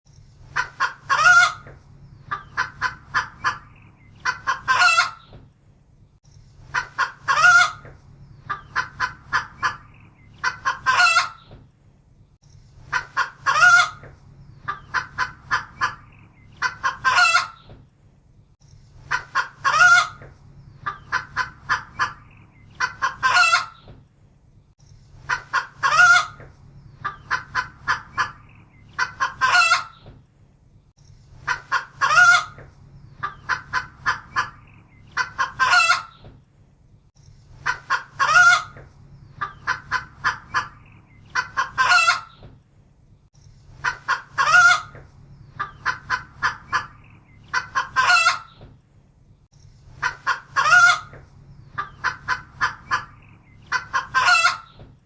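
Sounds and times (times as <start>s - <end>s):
hen clucking: 0.4s - 5.4s, 6.6s - 11.6s, 12.8s - 17.8s, 19.0s - 24.0s, 25.2s - 30.2s, 31.3s - 36.4s, 37.5s - 42.6s, 43.7s - 48.7s, 49.9s - 54.9s.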